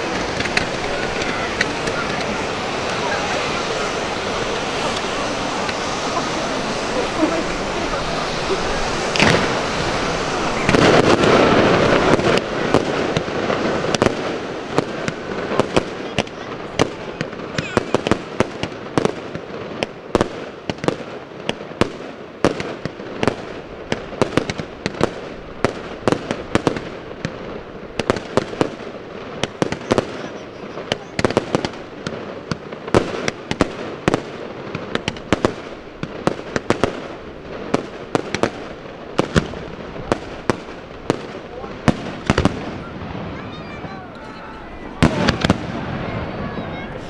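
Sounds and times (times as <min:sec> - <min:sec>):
firework shells bursting: 0:00.0 - 0:44.3, 0:44.9 - 0:46.1
steady background noise: 0:00.0 - 0:47.0.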